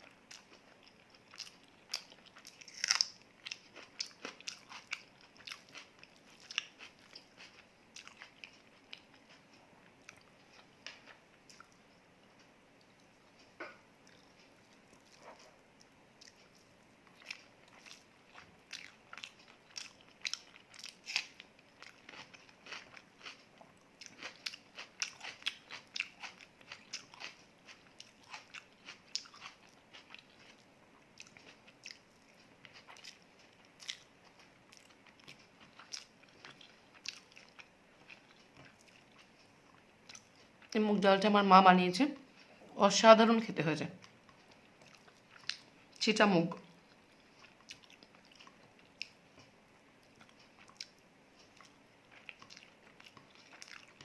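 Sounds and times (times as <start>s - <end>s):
chewing with crisp crunches: 0.0s - 40.8s, 44.0s - 54.0s.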